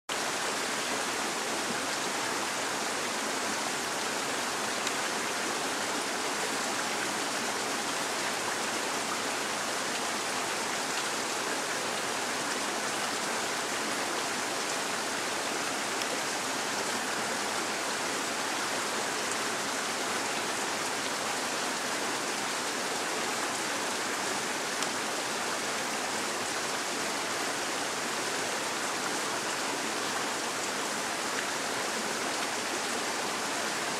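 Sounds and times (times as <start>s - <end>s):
stream running over stones: 0.1s - 33.9s.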